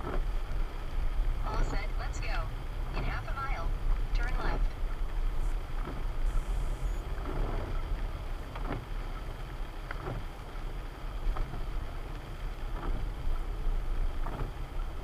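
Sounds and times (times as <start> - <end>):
vehicle rumbling: 0.0 - 15.0.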